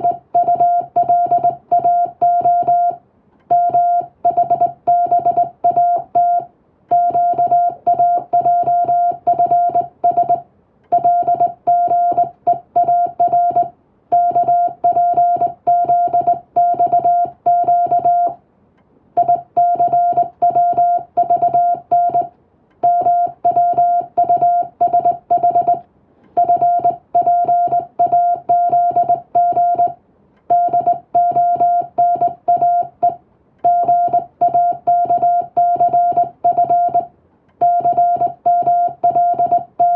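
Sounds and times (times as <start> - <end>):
morse code beeps: 0.0 - 18.4, 19.2 - 25.8, 26.4 - 39.9.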